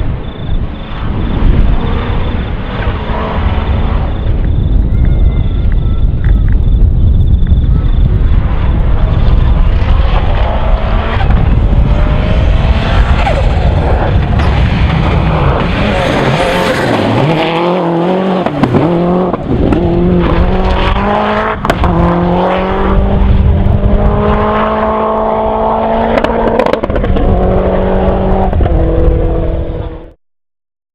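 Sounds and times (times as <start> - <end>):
rally car engine at full throttle: 0.0 - 5.0, 6.6 - 30.2.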